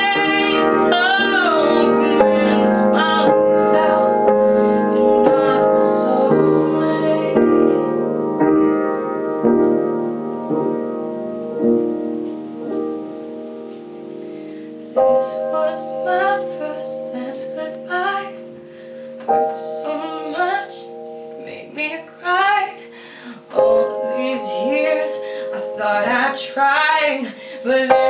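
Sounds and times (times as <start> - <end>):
upright piano playing slowly: 0.0 - 28.0.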